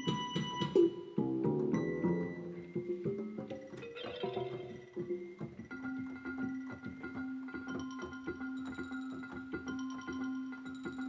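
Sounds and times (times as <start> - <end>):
quick mallet-percussion notes: 1.7 - 11.0.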